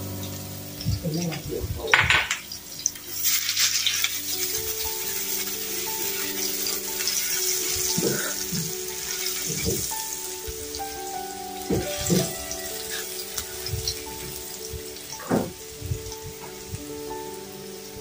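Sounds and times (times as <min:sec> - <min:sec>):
aromatics sizzling in hot oil: 0:00.0 - 0:18.0.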